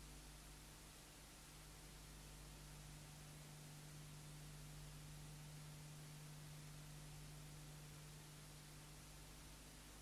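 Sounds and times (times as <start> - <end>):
faint steady hiss: 0.0 - 10.0
low mains hum: 0.0 - 10.0.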